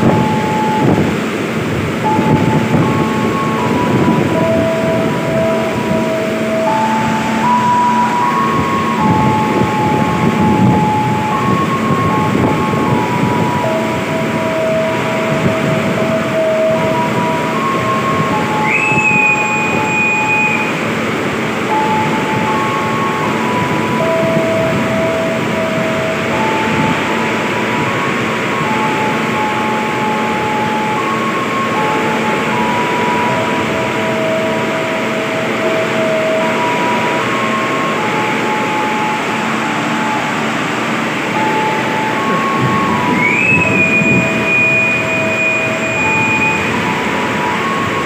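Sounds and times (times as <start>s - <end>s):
heavy rain: 0.0s - 48.0s
long high whistle blast: 0.0s - 48.0s
plain tones stepping in pitch: 0.0s - 48.0s
waiting train: 0.0s - 48.0s.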